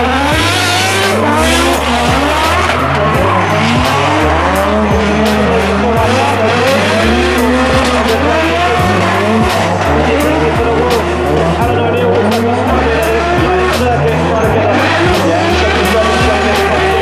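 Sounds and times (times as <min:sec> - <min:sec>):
chill hop music: 0:00.0 - 0:17.0
high-revving car engines: 0:00.0 - 0:17.0.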